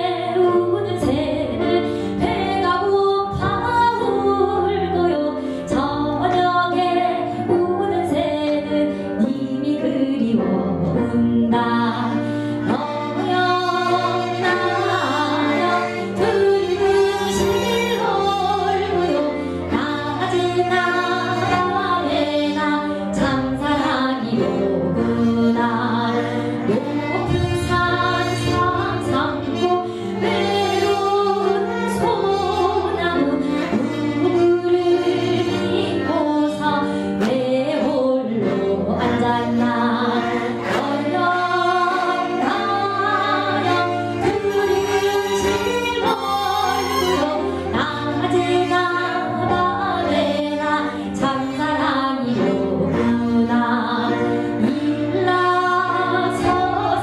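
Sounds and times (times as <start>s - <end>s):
piano and traditional instruments: 0.0s - 57.0s
woman singing folk song: 0.0s - 57.0s.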